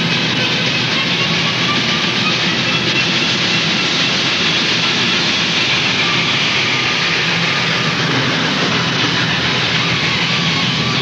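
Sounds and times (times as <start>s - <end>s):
moving train roaring: 0.0s - 11.0s.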